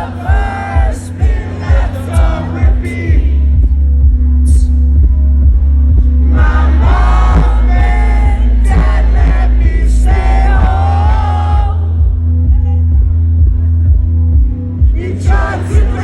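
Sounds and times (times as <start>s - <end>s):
heavy bass beat: 0.0s - 16.0s.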